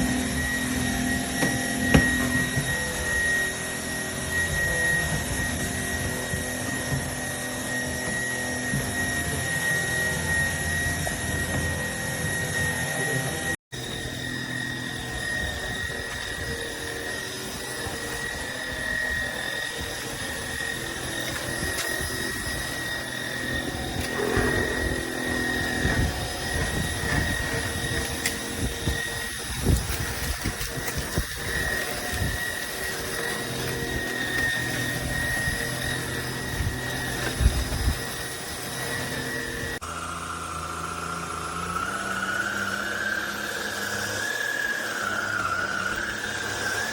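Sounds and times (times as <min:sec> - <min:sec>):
stick vacuum cleaner whine: 0:00.0 - 0:46.9.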